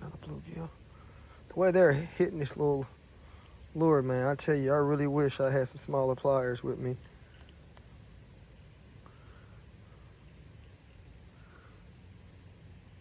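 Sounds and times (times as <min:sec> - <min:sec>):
faint outdoor background noise: 0:00.0 - 0:13.0
insect chorus trilling: 0:00.0 - 0:13.0.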